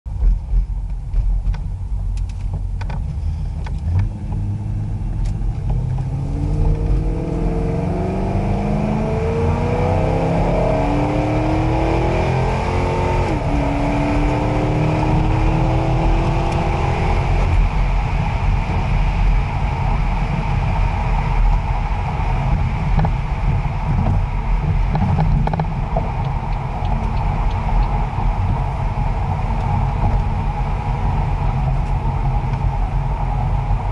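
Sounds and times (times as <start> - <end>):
road and tyre noise: 0.0 - 33.9
car engine accelerating: 0.1 - 33.9.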